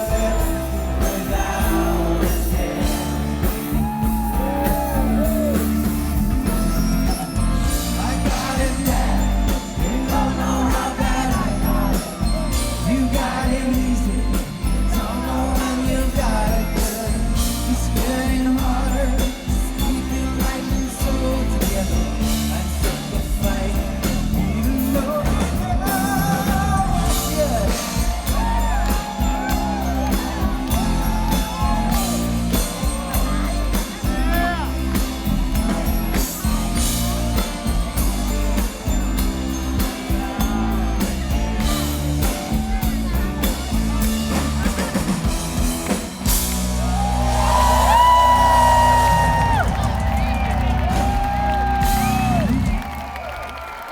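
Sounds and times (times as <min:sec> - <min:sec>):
man singing lead vocal: 0:00.0 - 0:44.9
heavy bass: 0:00.0 - 0:53.1
pop-rock band playing: 0:00.0 - 0:53.2
steady drumbeat: 0:00.0 - 0:53.2.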